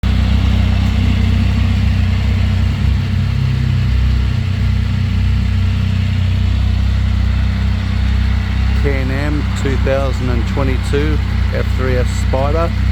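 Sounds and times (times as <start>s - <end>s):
three-wheeler engine idling: 0.0s - 12.9s.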